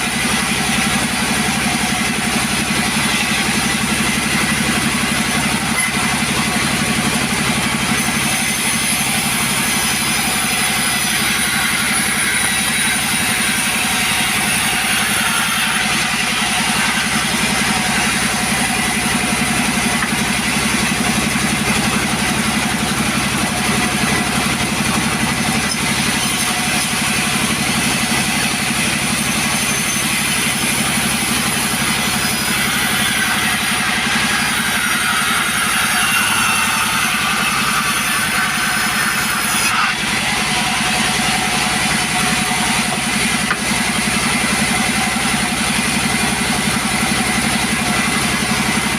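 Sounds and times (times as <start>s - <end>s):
chainsaw engine running: 0.0s - 48.9s.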